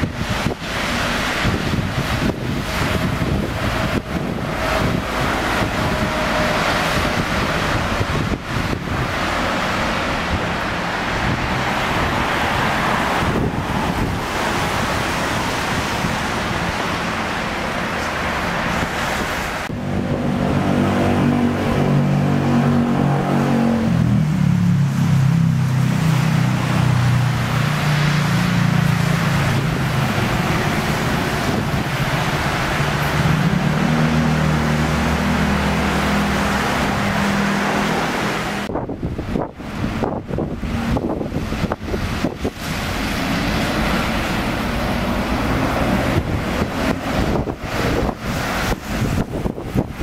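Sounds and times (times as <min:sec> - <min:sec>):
bus engine running: 0:00.0 - 0:50.0
street traffic: 0:00.0 - 0:50.0
wind noise on microphone: 0:00.0 - 0:50.0.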